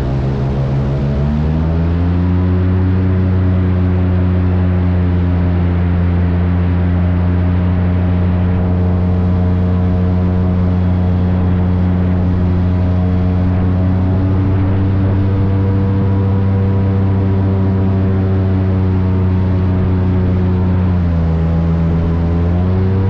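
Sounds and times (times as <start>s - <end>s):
airboat engine and propeller drone: 0.0s - 23.0s.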